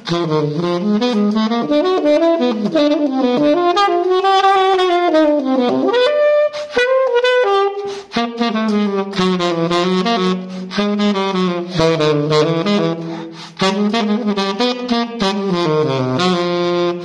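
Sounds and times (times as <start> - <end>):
saxophone playing jazz: 0.0 - 17.0.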